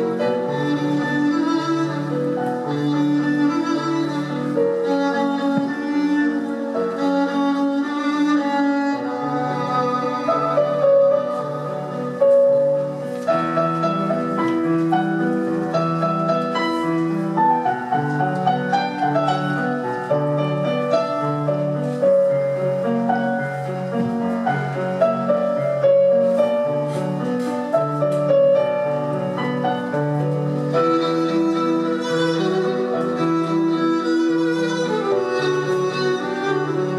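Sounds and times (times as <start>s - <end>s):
classical piano music: 0.0s - 36.9s.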